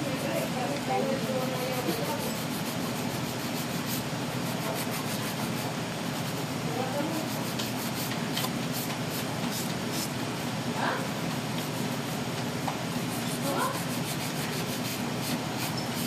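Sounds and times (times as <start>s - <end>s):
nail file rubbing on nails: 0.0s - 10.2s, 13.0s - 16.0s.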